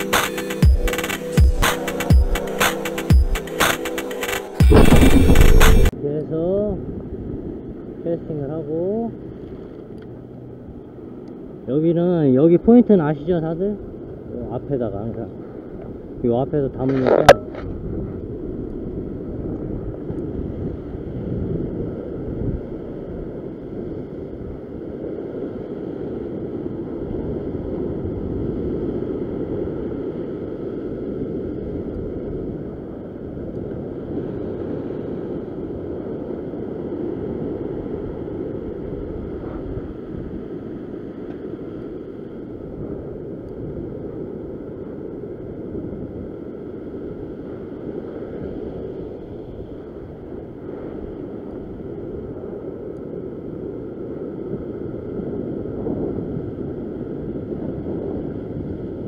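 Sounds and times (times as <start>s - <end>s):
wind rumbling on microphone: 4.6s - 59.0s.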